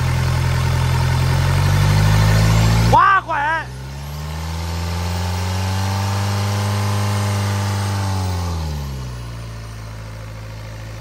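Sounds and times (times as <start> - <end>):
diesel engine revving and idling: 0.0 - 11.0.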